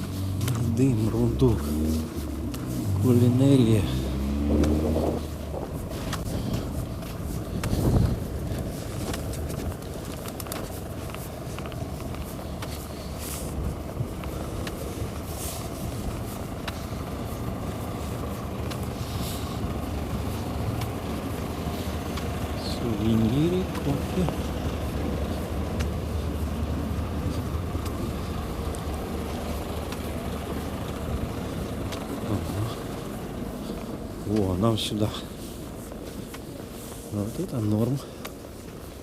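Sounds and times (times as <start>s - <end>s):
cars passing on city street: 0.0s - 39.0s.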